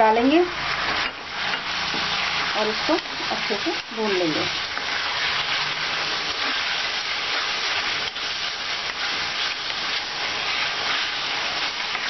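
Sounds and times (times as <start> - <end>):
meat sizzling in oil: 0.0 - 12.0
wooden spatula scraping: 0.6 - 12.0.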